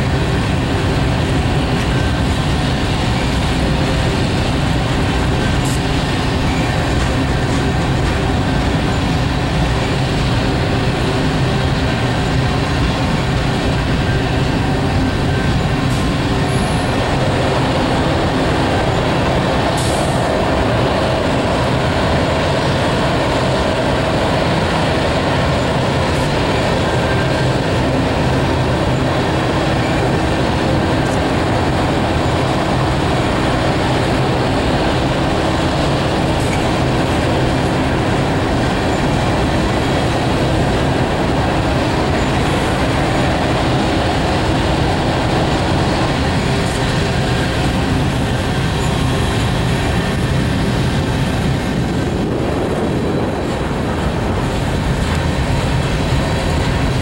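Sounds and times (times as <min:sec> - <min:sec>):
steel wheels on rails: 0:00.0 - 0:57.0.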